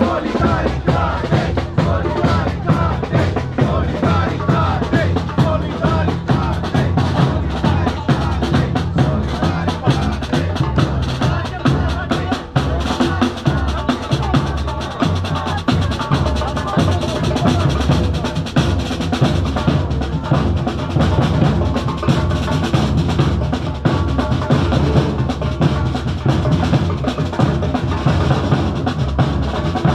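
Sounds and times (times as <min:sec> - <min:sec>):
marching bass drums: 0:00.0 - 0:29.9
snare drums: 0:00.0 - 0:29.9.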